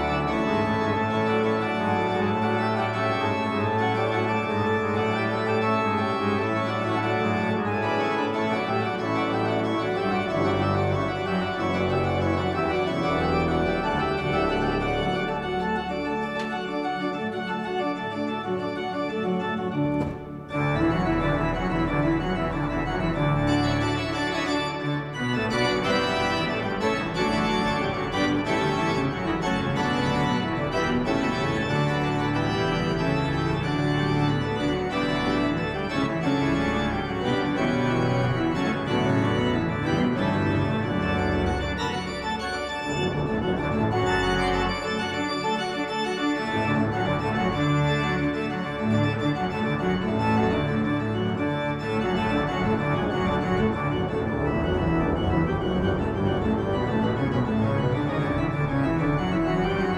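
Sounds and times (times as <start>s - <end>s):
low organ pedal bass notes: 0.0s - 59.9s
pipe organ chords: 0.0s - 59.9s.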